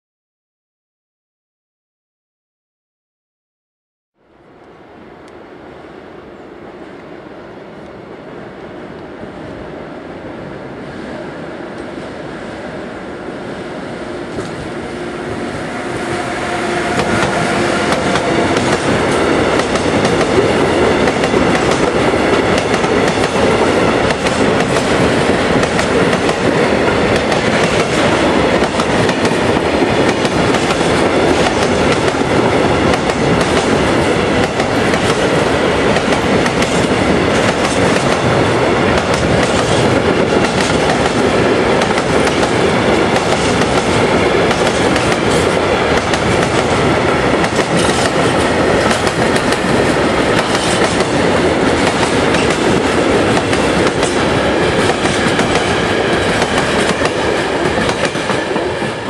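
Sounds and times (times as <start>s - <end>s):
freight train rumbling past: 4.2s - 59.0s.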